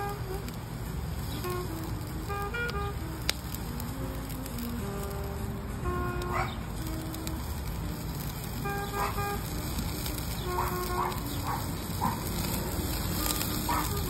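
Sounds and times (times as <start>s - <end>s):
background music of held notes: 0.0s - 14.0s
oysters sizzling on a grill: 0.0s - 14.0s.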